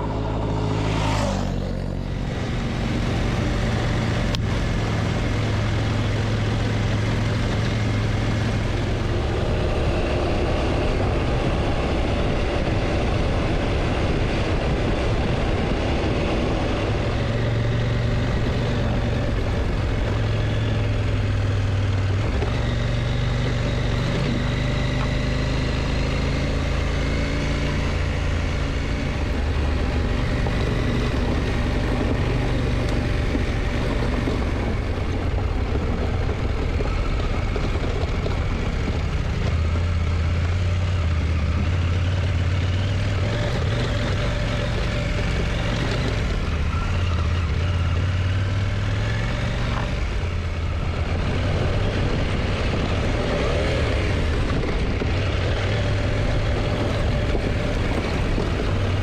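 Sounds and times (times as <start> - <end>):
constant rush of noise: 0.0 - 59.0
motorcycle engine running: 0.0 - 59.0.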